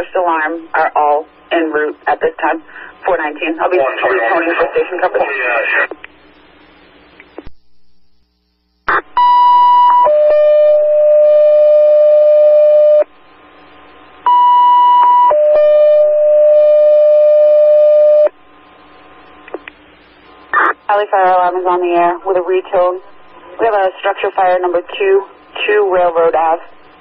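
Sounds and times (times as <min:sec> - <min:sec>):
faint radio hiss: 0:00.0 - 0:10.0, 0:11.7 - 0:14.3, 0:17.4 - 0:27.0.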